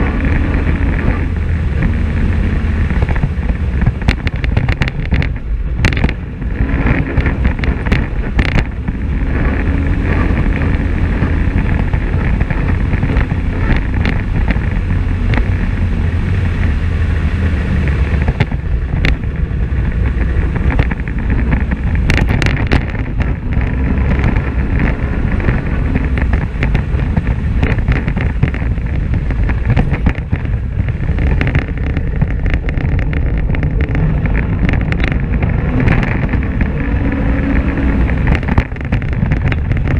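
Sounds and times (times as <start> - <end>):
knocks from bumps and gravel: 0.0 - 15.8, 17.9 - 39.9
off-road vehicle engine: 0.0 - 39.9
tyres and chassis rumbling: 0.0 - 39.9
wind on microphone: 0.0 - 39.9.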